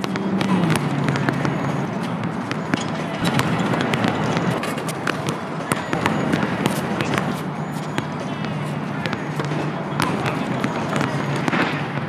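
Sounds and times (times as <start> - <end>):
basketball bouncing on asphalt: 0.0 - 12.0.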